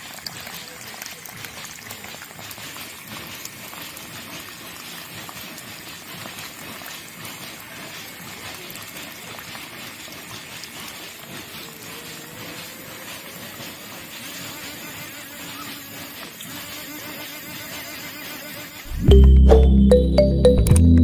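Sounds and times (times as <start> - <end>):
water splashing and trickling: 0.0 - 19.7.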